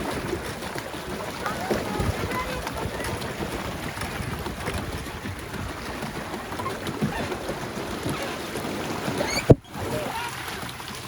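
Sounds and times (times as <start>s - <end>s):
paddle wheel churning water: 0.0s - 11.0s.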